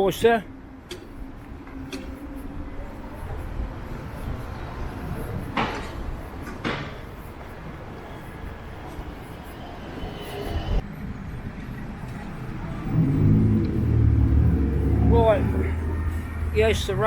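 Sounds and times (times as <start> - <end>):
street noise: 0.0 - 17.0
wind buffeting microphone: 0.6 - 17.0.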